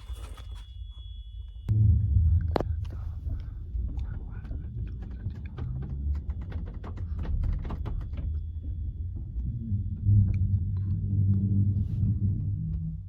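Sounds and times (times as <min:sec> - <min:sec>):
steady low hum: 0:00.0 - 0:13.0
train carriage rumble: 0:01.7 - 0:13.0.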